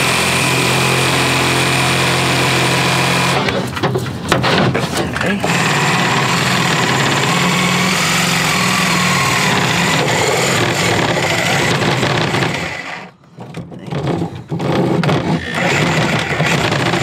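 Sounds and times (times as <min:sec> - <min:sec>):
reciprocating saw cutting board: 0:00.0 - 0:13.2, 0:13.9 - 0:17.0.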